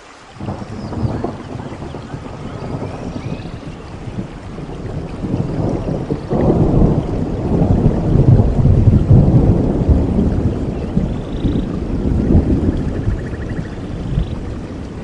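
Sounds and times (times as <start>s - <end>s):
steady rain: 0.0s - 15.0s
rolling thunder: 0.4s - 15.0s.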